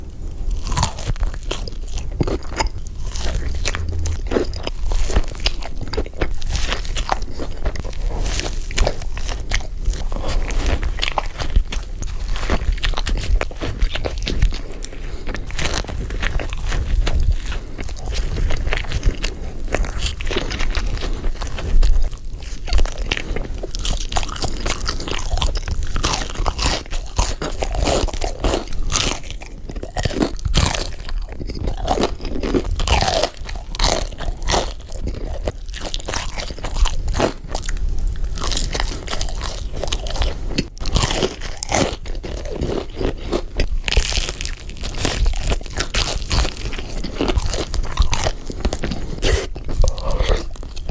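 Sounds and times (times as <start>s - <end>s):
crunchy bites and chewing: 0.0s - 50.9s.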